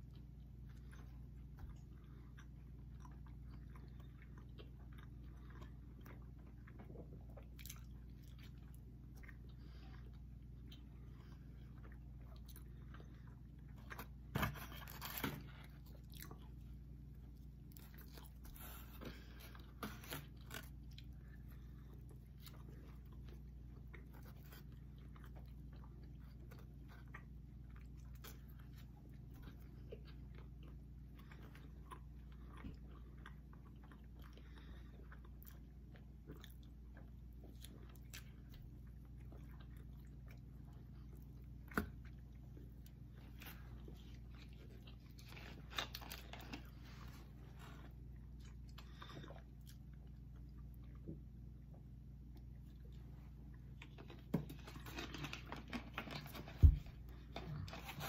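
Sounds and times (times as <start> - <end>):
people chewing pizza: 0.0 - 58.0.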